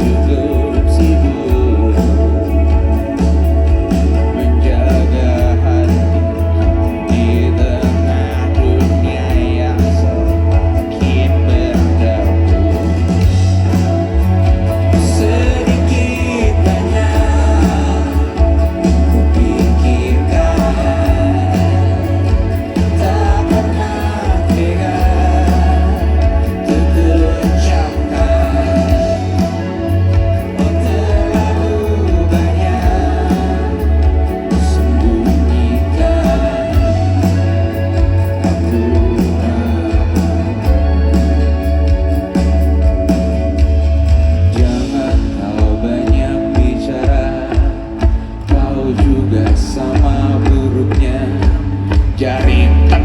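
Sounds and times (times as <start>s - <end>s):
booming bass: 0.0s - 53.0s
live band music: 0.0s - 53.0s
person singing: 0.0s - 53.0s.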